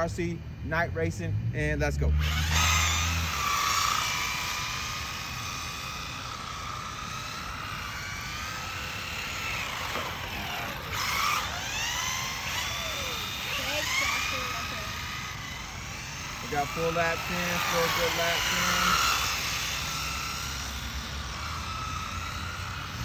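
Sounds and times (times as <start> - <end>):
rc car electric motors whining: 1.8 - 23.0.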